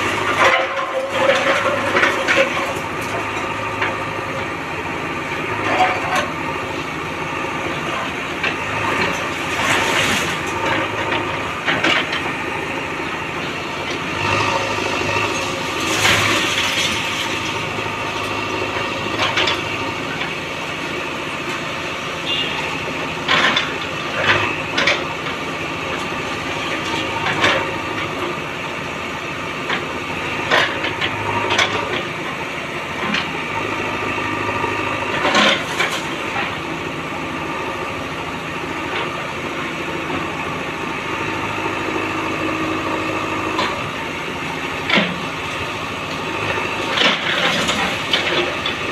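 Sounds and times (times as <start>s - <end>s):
diesel engine running under load: 0.0s - 48.9s.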